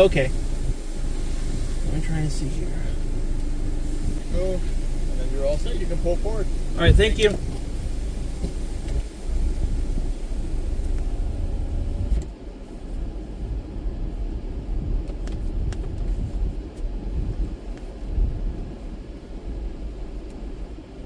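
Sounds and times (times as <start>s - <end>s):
car rumbling at low speed: 0.0s - 21.0s.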